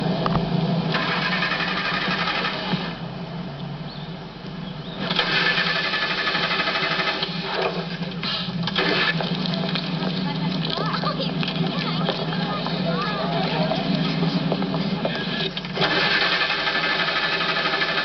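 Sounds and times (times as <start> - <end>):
car engine cranking: 0.0 - 4.1, 4.7 - 18.0.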